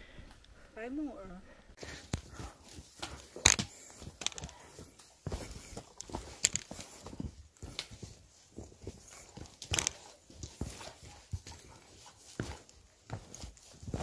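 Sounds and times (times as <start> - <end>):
footsteps on forest trail: 1.8 - 14.0.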